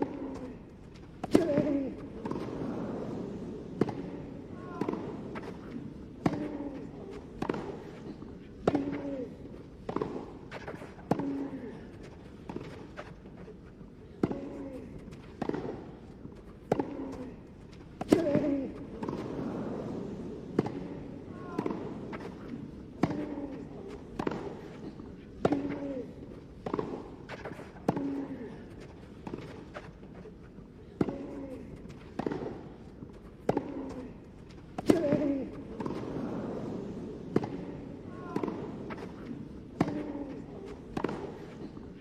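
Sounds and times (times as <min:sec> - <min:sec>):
racket hitting tennis ball: 0:00.0 - 0:42.0.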